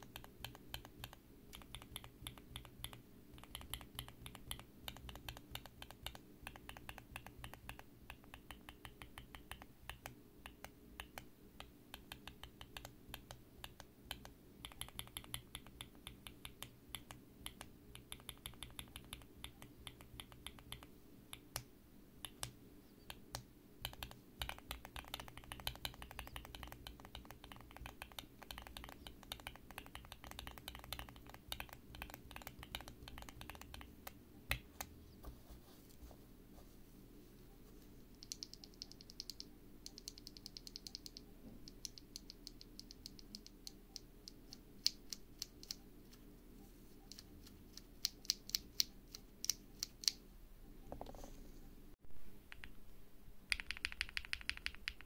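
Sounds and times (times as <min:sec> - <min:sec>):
quiet mechanical keyboard clacks: 0:00.0 - 0:35.4, 0:38.1 - 0:46.3, 0:53.5 - 0:55.0.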